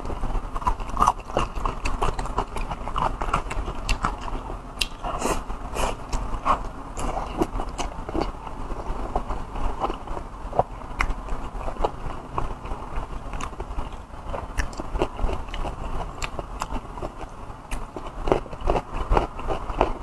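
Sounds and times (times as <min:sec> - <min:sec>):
person chewing and smacking: 0:00.0 - 0:08.4, 0:09.1 - 0:12.7, 0:13.3 - 0:20.0.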